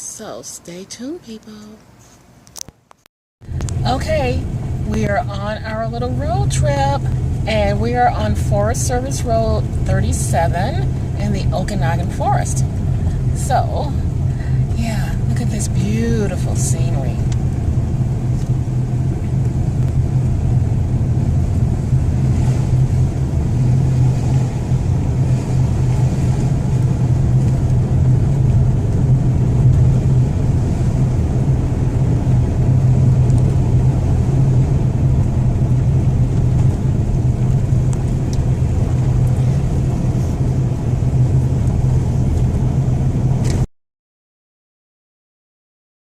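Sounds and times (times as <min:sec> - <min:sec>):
car engine and tyre rumble: 0:02.0 - 0:43.7.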